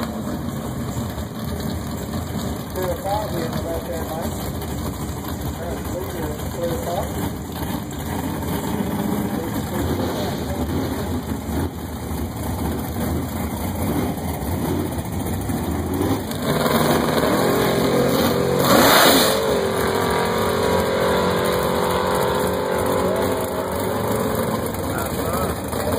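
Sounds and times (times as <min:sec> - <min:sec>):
engines rumbling: 0:00.0 - 0:25.9.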